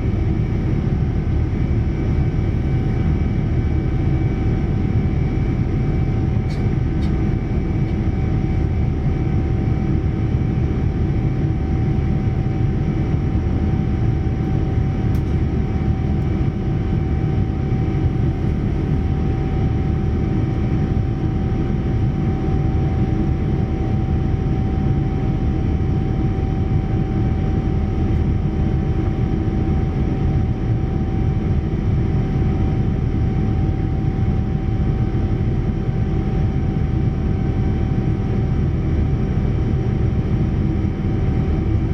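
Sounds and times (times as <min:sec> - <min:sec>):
aircraft engine rumble: 0:00.0 - 0:41.9.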